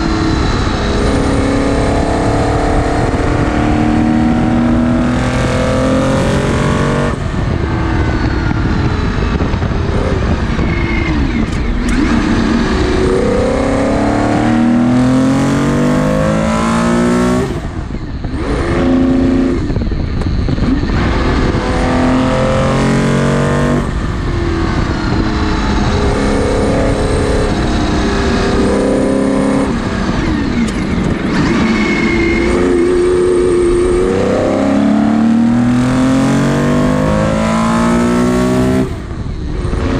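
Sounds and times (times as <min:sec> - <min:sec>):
racing engine at full throttle: 0:00.0 - 0:39.9.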